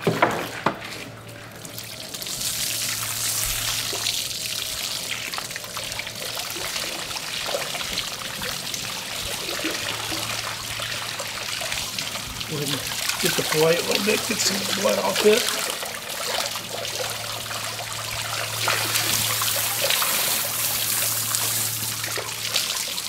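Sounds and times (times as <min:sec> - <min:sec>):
garden hose spraying water: 0:02.0 - 0:23.0.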